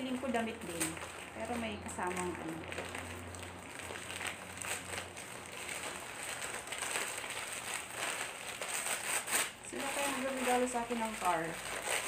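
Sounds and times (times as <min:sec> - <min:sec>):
gift wrapping crinkling: 0:00.0 - 0:12.0.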